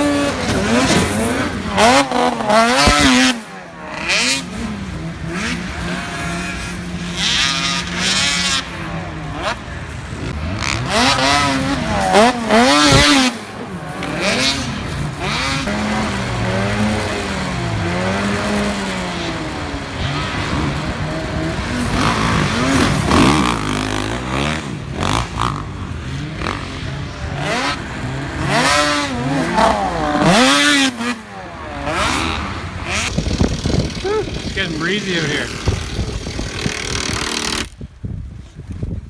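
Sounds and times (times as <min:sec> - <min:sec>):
snowmobile engines revving: 0:00.0 - 0:37.8.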